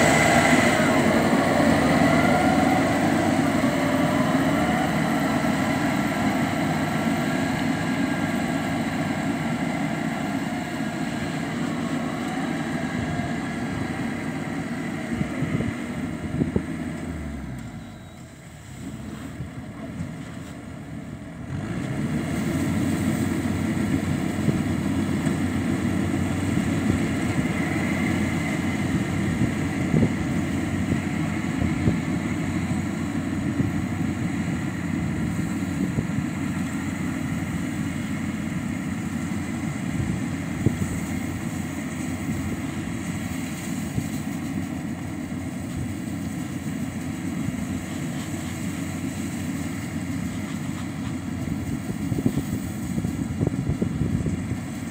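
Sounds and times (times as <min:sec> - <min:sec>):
combine harvester engine droning: 0:00.0 - 0:54.9.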